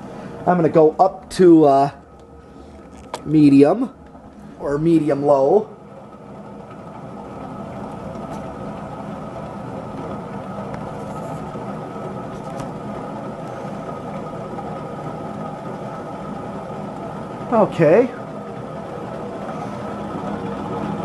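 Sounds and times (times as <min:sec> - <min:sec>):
ceiling fan running with bearing noise: 0:00.0 - 0:21.0.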